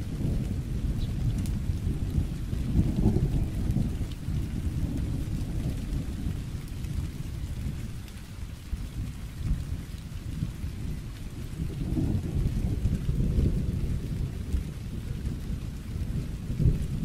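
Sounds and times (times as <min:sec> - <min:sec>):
low rolling thunder: 0:00.0 - 0:17.0
steady rain: 0:00.0 - 0:17.0.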